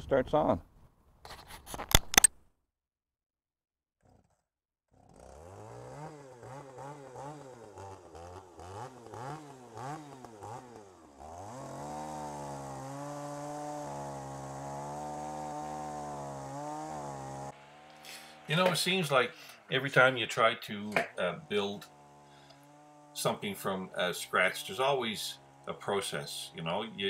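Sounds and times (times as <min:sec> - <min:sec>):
chainsaw revving and cutting log: 0:04.0 - 0:27.0.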